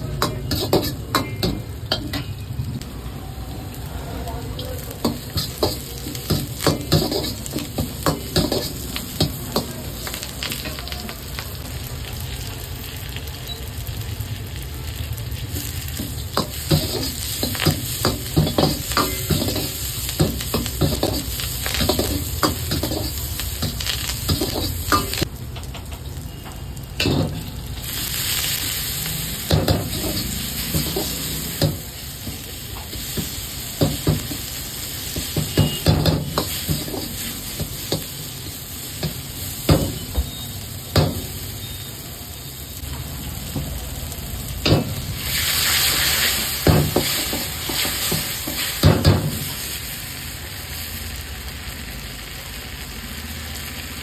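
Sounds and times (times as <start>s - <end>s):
food sizzling in oil in a wok: 0.0s - 54.0s.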